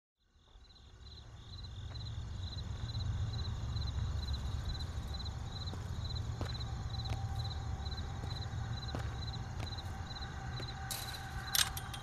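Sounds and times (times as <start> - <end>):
crickets chirping: 0.2 - 12.0
low steady rumble: 0.9 - 12.0.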